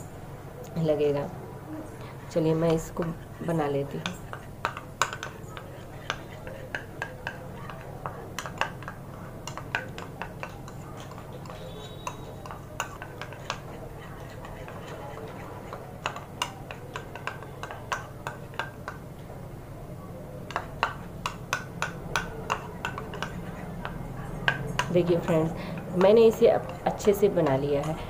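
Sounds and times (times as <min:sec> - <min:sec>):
spoon tapping plastic bowl: 0:02.7 - 0:19.1, 0:20.5 - 0:28.0.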